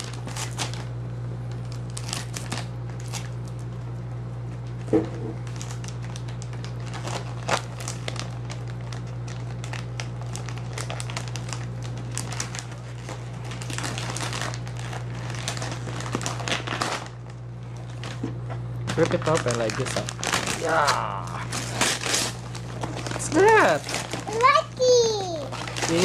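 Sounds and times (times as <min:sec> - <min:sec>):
plastic bag crinkling: 0:00.0 - 0:00.9, 0:01.5 - 0:03.6, 0:05.4 - 0:26.0.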